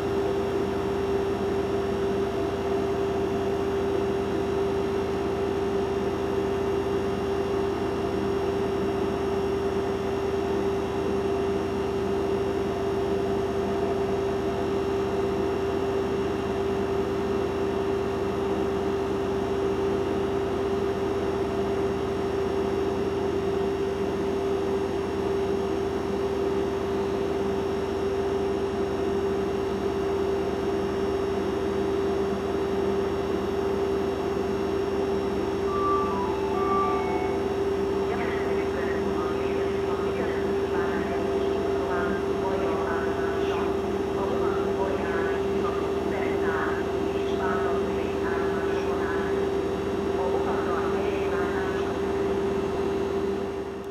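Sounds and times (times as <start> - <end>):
steady electrical hum: 0.0 - 53.9.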